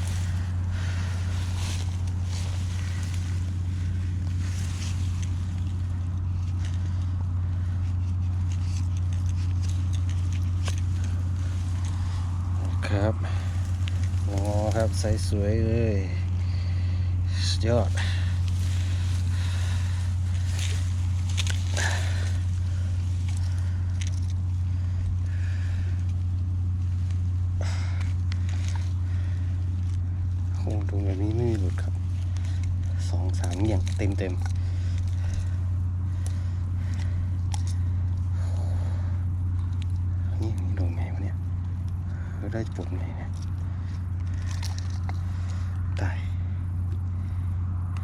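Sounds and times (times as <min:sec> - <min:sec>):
faint rustles: 0:00.0 - 0:48.0
low motor hum: 0:00.0 - 0:48.0
steady low drone: 0:00.0 - 0:48.0.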